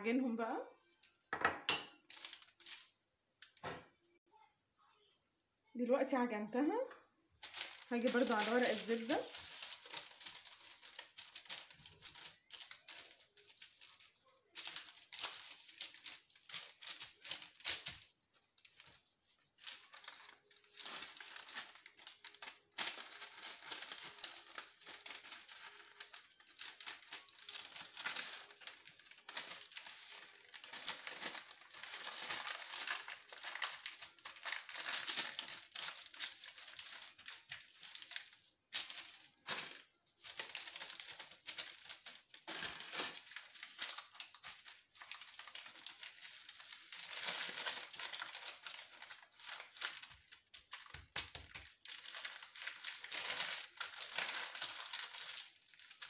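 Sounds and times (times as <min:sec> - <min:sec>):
baking paper crinkling: 0:00.8 - 0:03.9, 0:06.9 - 0:56.0.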